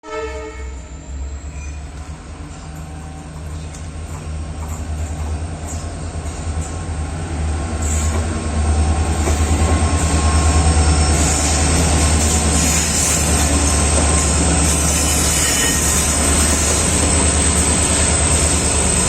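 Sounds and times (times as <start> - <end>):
diesel locomotive engines humming: 0.8 - 19.0
wheels hissing on rail: 0.9 - 19.0.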